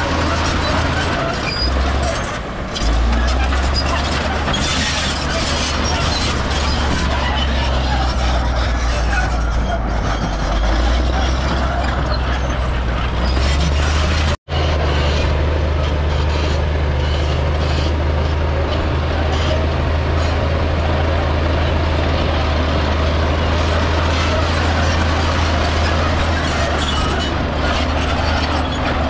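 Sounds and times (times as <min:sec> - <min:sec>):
diesel machinery engine drone: 0:00.0 - 0:29.0.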